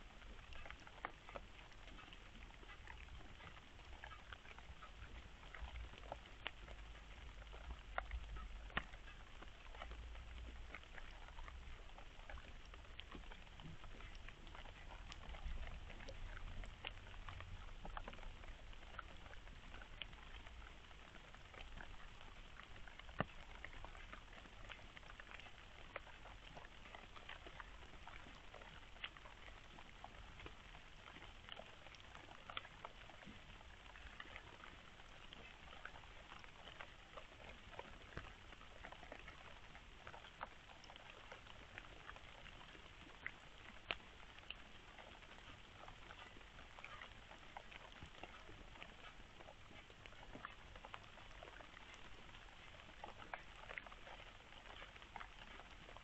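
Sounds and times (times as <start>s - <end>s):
small clicks and crackles: 0.0s - 56.0s.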